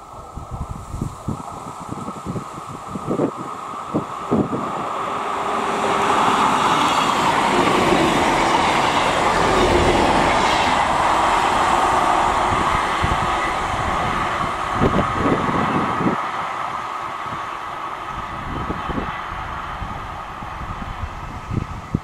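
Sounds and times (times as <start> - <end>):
diesel train passing at speed: 0.0 - 22.0.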